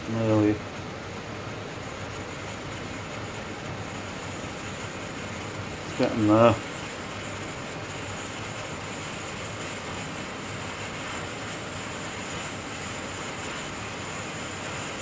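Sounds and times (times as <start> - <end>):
stove flame rushing: 0.0 - 15.0.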